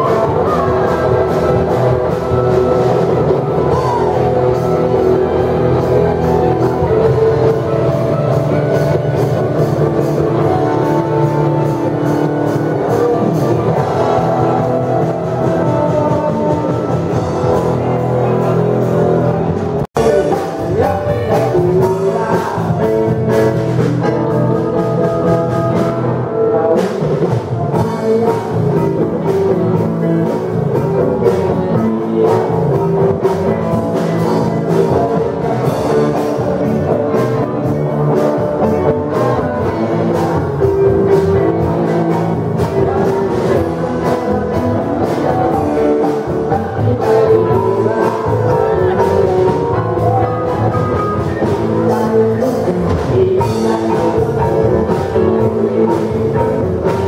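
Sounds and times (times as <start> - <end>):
bass guitar: 0.0 - 57.0
drum kit: 0.0 - 57.0
electric guitar: 0.0 - 57.0
man singing into a microphone: 0.0 - 57.0.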